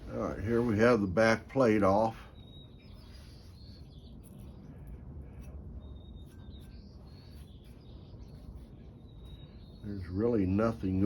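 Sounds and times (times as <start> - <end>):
small birds chirping faintly: 0.0 - 11.0
steady low rumble: 0.0 - 11.0.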